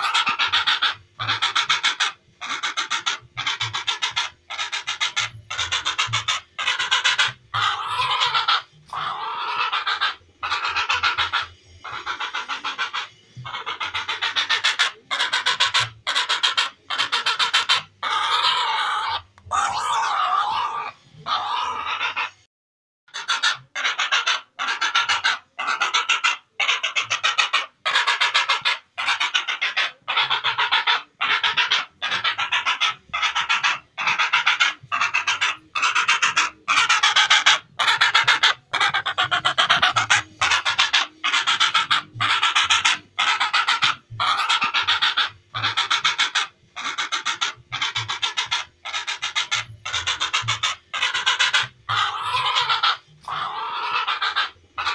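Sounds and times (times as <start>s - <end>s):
heron rasping croaks: 0.0s - 22.5s, 23.1s - 54.9s.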